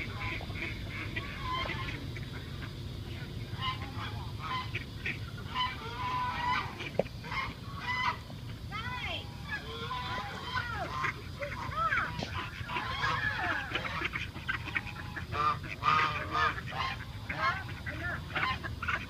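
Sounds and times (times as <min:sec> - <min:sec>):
geese and ducks calling: 0:00.0 - 0:19.0.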